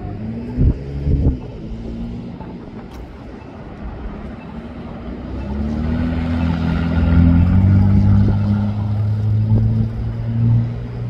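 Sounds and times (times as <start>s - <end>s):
car engine hum: 0.0s - 11.0s
street traffic: 0.0s - 11.0s.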